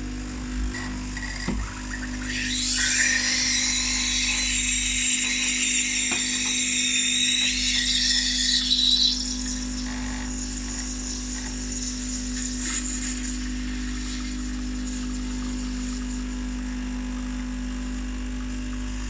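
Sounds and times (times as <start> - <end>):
espresso machine pump running: 0.0 - 19.0.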